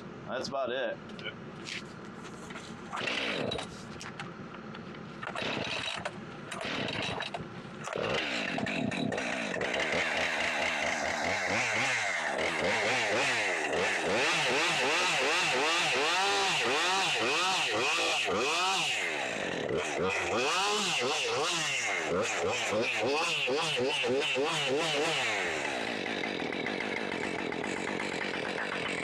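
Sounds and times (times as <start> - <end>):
chainsaw revving and cutting: 2.9 - 3.7, 5.2 - 29.0.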